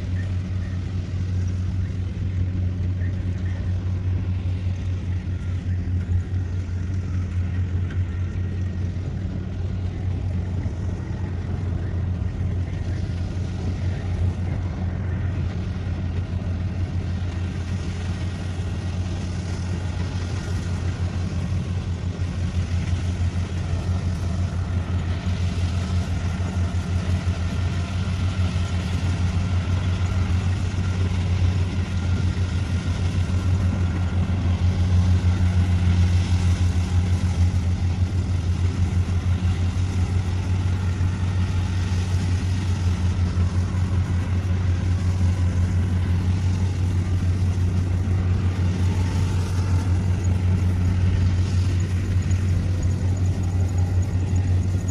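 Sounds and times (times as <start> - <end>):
combine harvester engine droning: 0.0 - 54.9.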